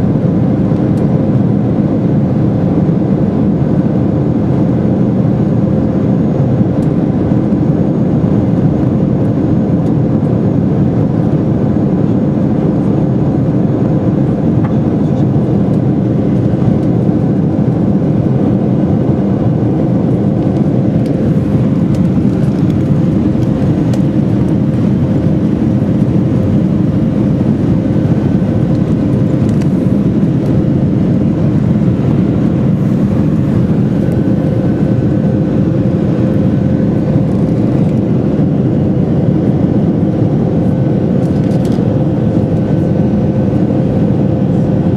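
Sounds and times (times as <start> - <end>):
jet engine drone in cabin: 0.0 - 44.9
faint steady whine: 3.2 - 44.9.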